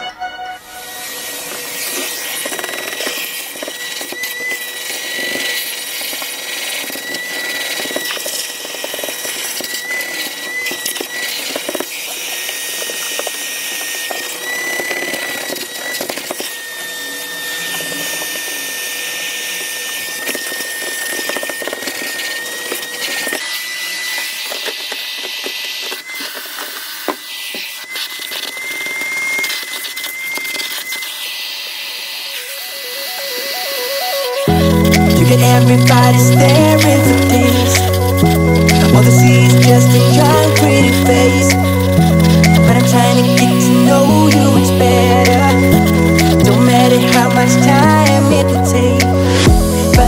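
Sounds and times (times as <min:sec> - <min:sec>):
vacuum cleaner whining: 0:00.0 - 0:50.0.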